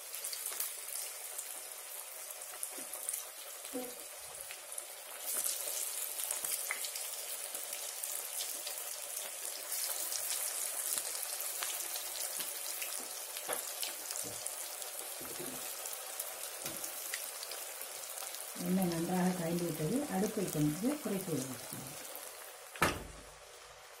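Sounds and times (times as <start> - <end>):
fritters deep-frying in oil: 0.0 - 24.0.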